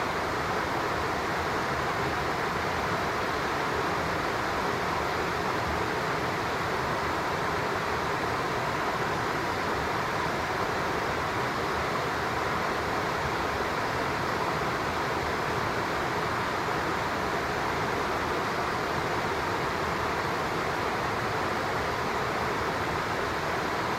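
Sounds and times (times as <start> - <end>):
stream flowing: 0.0 - 23.9.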